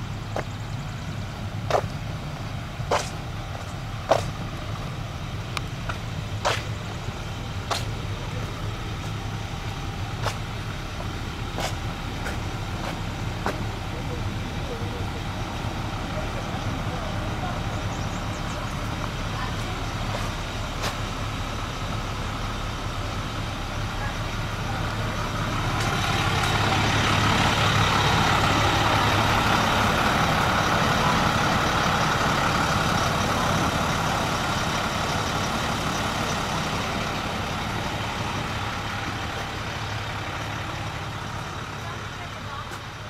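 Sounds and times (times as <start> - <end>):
engine passing by: 0.0 - 43.0.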